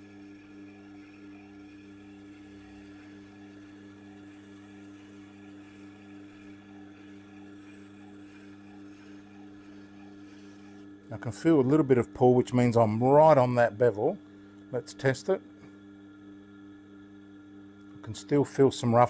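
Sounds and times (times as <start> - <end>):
sharpener motor humming: 0.0 - 15.9.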